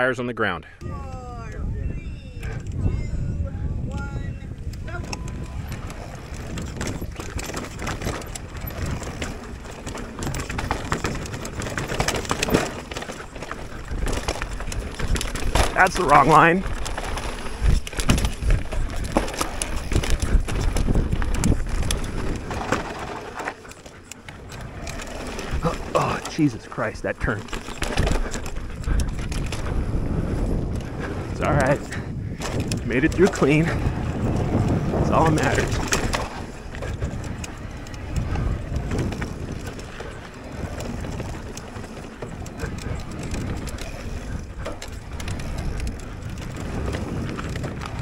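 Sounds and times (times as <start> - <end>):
wind buffeting microphone: 0.8 - 48.0
bike tyres rolling over dirt: 2.5 - 48.0
bike knocks and rattles: 4.7 - 48.0.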